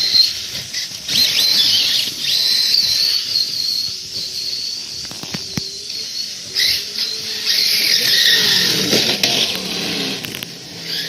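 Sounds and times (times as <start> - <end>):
electric motors whining: 0.0 - 11.0.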